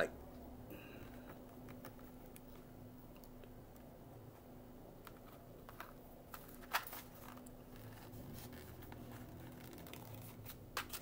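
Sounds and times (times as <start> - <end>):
faint steady hum: 0.0 - 11.0
small clicks and handling noises: 1.0 - 11.0.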